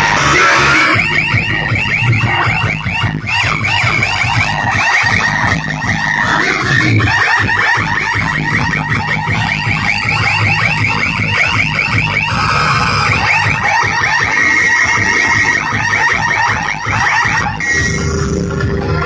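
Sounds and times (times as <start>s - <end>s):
electronic rising alarm sweeps: 0.0s - 19.0s
steady low bass: 0.0s - 19.0s.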